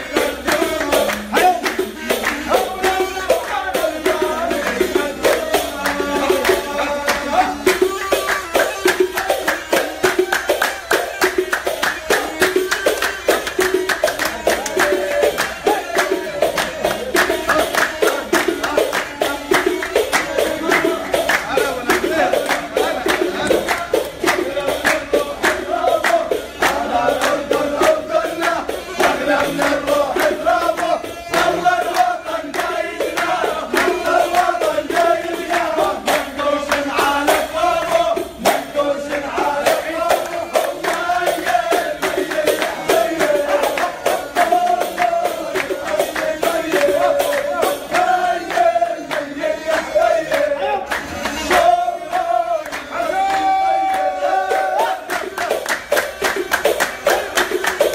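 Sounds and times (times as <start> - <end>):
wind instrument melody: 0.0 - 57.8
hands clapping: 0.0 - 57.9
men singing: 0.0 - 57.9.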